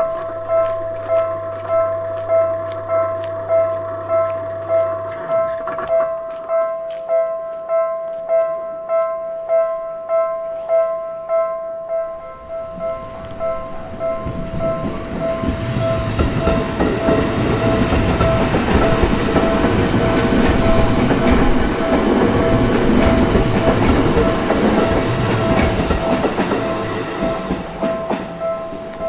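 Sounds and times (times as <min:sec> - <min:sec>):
wheels clacking over rail joints: 0:00.0 - 0:07.1, 0:12.4 - 0:29.0
crossing warning bell dinging: 0:00.0 - 0:29.0
electric train passing: 0:00.0 - 0:29.0.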